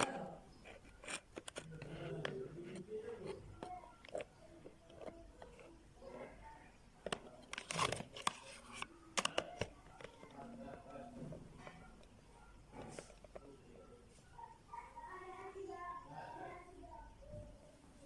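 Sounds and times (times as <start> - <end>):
faint talk: 0.0 - 18.0.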